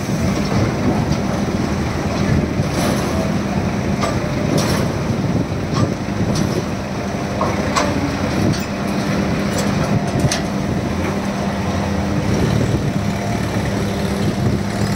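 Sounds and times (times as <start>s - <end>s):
heavy machinery drone: 0.0s - 14.9s.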